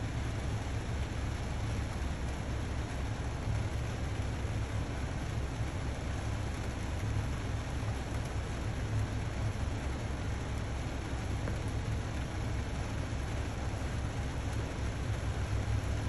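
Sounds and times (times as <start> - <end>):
heavy rain on a car: 0.0 - 16.0.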